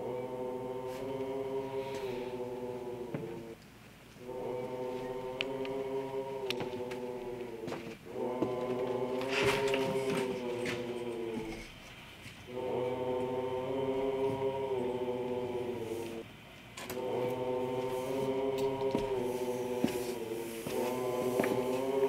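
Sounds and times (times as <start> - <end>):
choir chanting long held notes: 0.0 - 3.6, 4.2 - 22.0.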